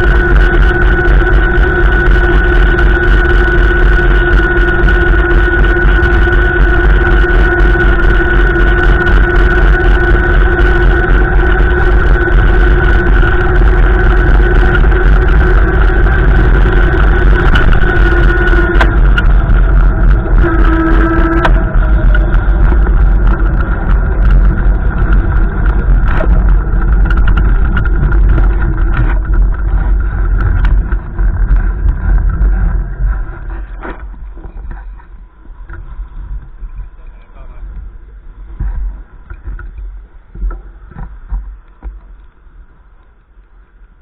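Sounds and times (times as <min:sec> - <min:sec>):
wind buffeting microphone: 0:00.0 - 0:42.0
humming tones: 0:00.0 - 0:44.0.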